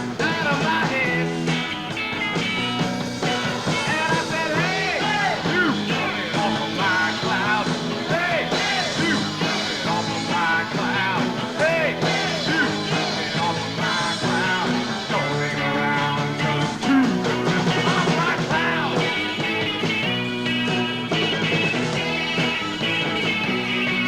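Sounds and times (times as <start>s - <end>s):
bass guitar: 0.0s - 24.0s
drums: 0.0s - 24.0s
electric guitars: 0.0s - 24.0s.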